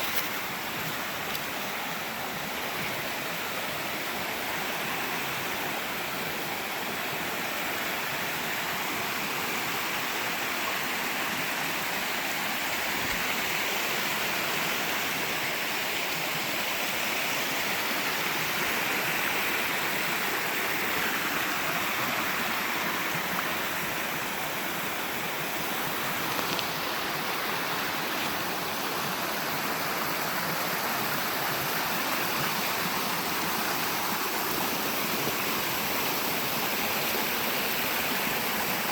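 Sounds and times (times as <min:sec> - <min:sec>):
creek water rushing over rocks: 0:00.0 - 0:38.9.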